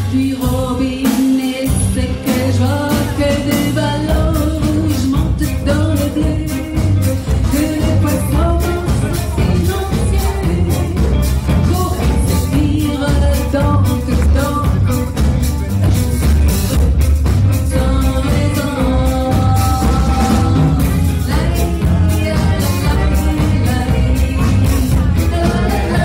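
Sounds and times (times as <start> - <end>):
double bass: 0.0 - 26.0
drum kit: 0.0 - 26.0
electric guitar: 0.0 - 26.0.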